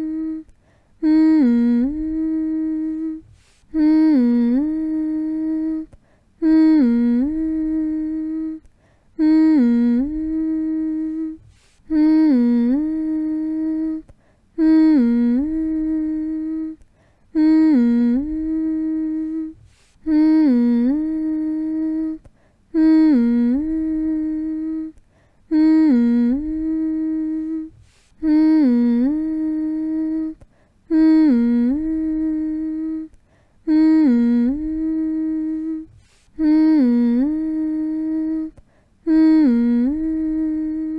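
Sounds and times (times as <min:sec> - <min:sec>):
person humming: 0:00.0 - 0:40.9.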